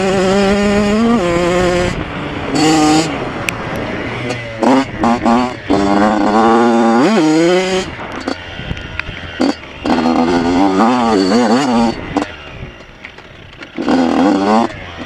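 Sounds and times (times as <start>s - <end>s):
two-stroke motorcycle revving: 0.0s - 15.0s.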